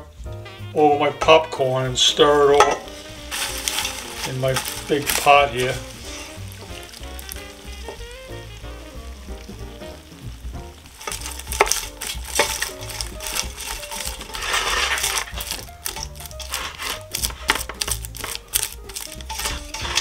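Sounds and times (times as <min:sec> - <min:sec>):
light background music: 0:00.0 - 0:20.0
spoon stirring crunchy popcorn: 0:00.4 - 0:20.0.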